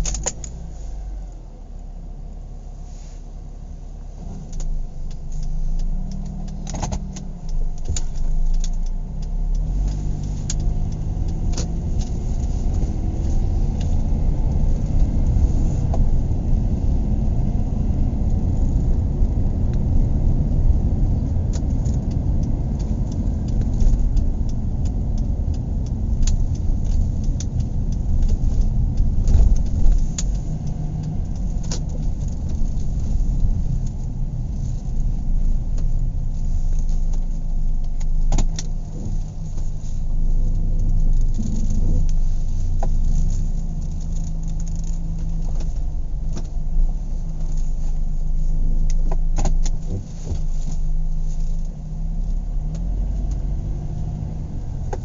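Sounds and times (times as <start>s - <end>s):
car engine and road rumble: 0.0s - 55.0s
sharp clicks: 4.4s - 50.5s.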